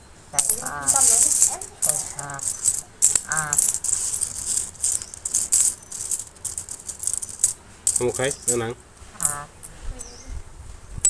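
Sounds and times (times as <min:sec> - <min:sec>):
metal coins clinking: 0:00.4 - 0:09.5.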